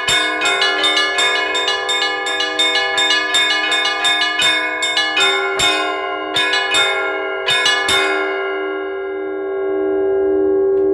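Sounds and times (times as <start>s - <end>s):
church bells ringing: 0.0s - 10.7s.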